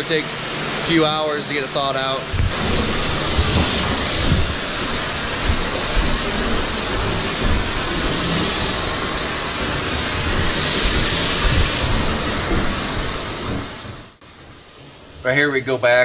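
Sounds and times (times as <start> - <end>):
hose spraying water: 0.0 - 16.0
low rumble: 2.2 - 15.1.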